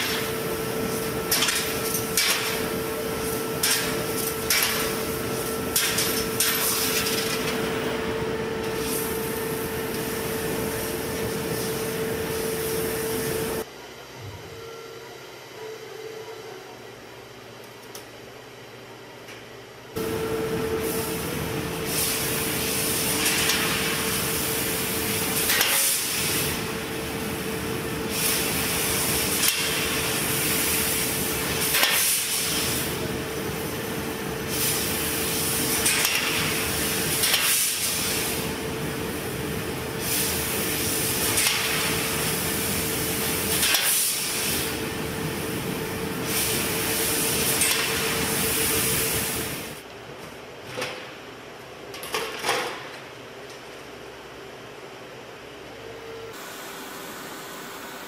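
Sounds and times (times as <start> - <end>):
laser cutter machine hum: 0.0 - 50.1, 53.9 - 58.0.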